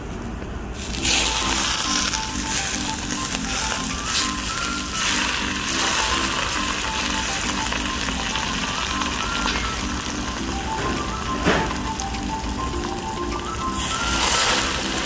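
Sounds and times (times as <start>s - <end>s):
seeds sizzling in hot oil: 0.8s - 15.0s.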